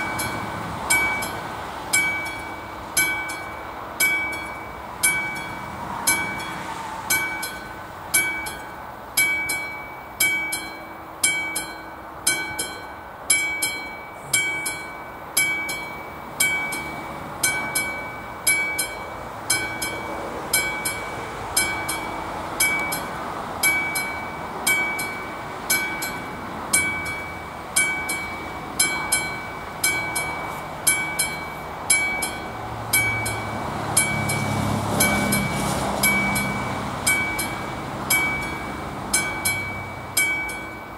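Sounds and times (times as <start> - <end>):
level crossing warning bell: 0.0 - 40.9
low engine rumble: 0.0 - 40.9.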